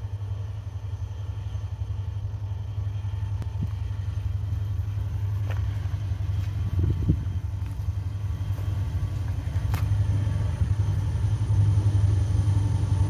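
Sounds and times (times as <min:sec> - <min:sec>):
locomotive engine rumble: 0:00.0 - 0:13.0.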